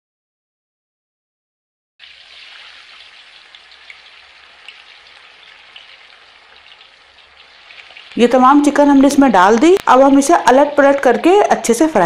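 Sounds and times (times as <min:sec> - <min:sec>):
chicken deep-frying in oil: 0:02.0 - 0:11.8.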